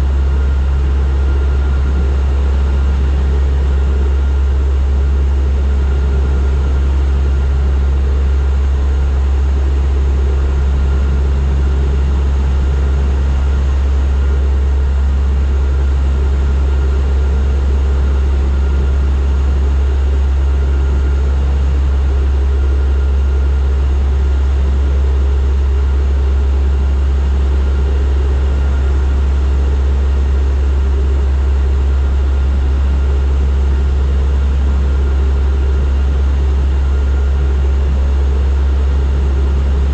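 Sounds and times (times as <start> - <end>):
faint steady whine: 0.0 - 39.9
propeller drone: 0.0 - 39.9.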